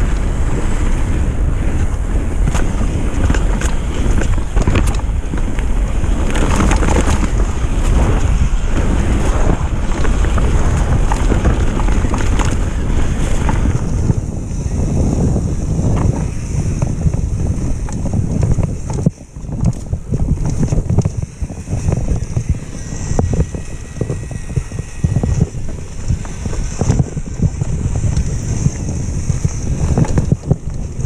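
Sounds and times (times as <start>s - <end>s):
bike knocking and rattling: 0.0s - 31.0s
bike tyre rumble: 0.0s - 31.0s
wind rushing over microphone: 0.0s - 31.0s.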